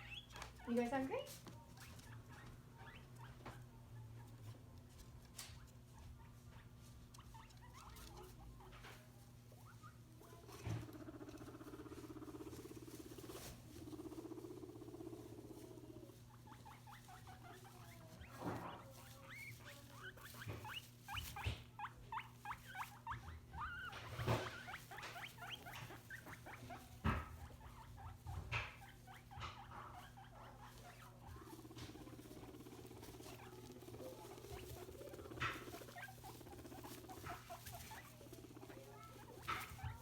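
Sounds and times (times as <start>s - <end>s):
guinea pigs squeaking: 0.0s - 40.0s
light rustling: 0.0s - 40.0s.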